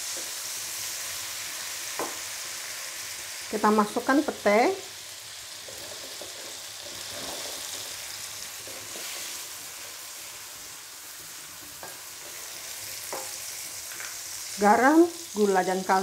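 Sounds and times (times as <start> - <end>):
oil sizzling in a wok: 0.0 - 16.0.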